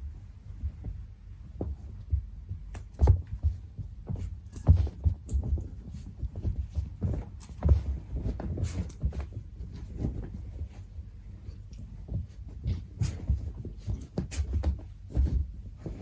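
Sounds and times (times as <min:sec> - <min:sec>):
scratchy rustles: 0:00.4 - 0:16.0.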